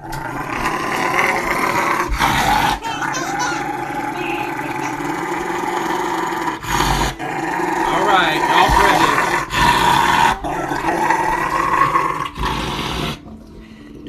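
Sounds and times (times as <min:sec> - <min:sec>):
dog growling: 0:00.0 - 0:13.4.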